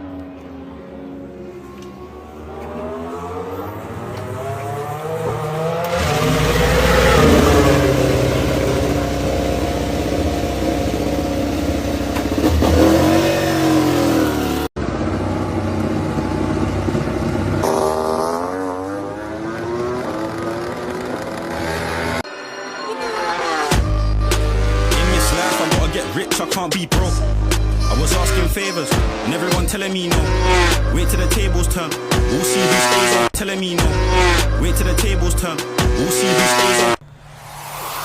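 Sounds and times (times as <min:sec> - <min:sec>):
racing motorcycle engines revving: 0:00.0 - 0:22.2, 0:22.9 - 0:37.0.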